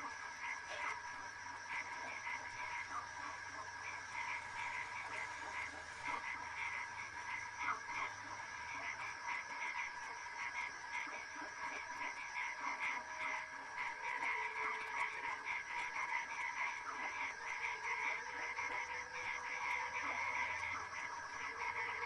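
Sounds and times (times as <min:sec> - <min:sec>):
chorus of frogs croaking: 0:00.0 - 0:22.0.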